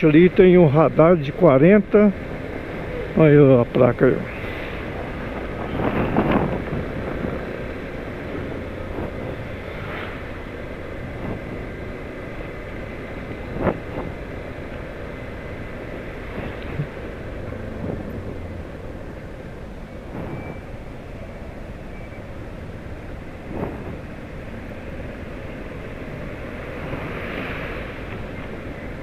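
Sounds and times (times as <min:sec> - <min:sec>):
tyre noise on wet road: 0:00.0 - 0:29.0.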